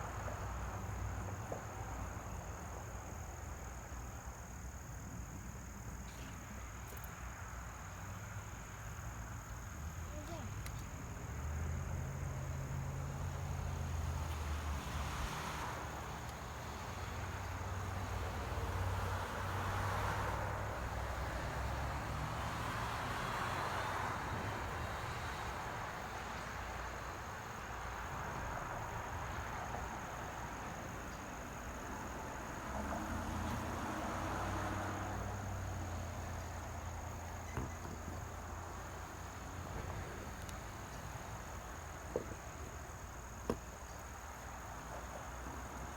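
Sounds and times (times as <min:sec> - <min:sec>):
crickets trilling: 0:00.0 - 0:45.9.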